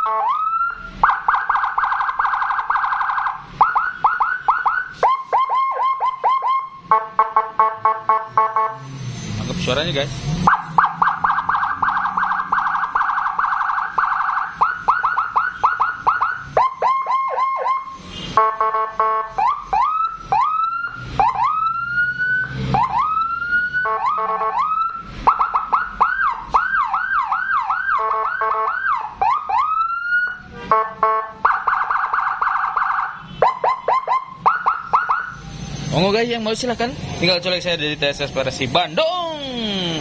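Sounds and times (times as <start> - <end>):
electronic siren cycling tones: 0.0 - 40.0.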